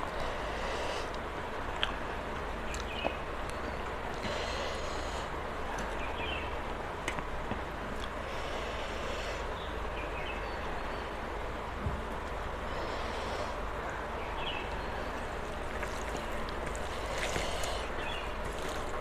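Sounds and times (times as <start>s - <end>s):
steady hissing noise: 0.0s - 19.0s.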